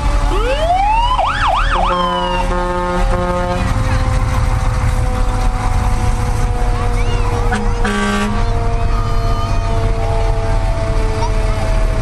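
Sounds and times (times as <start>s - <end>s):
fire engine siren: 0.0s - 12.0s
fire truck engines rumbling: 0.0s - 12.0s
horn blasts: 1.7s - 12.0s.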